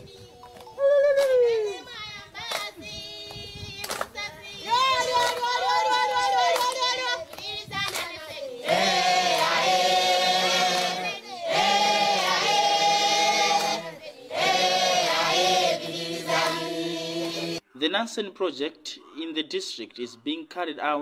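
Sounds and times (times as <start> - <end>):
women singing together: 0.0 - 17.6.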